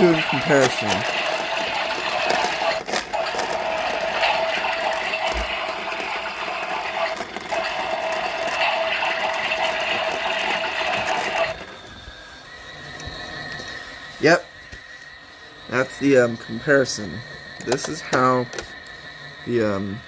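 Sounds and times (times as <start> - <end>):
toy washing machine motor whirring: 0.0 - 20.0.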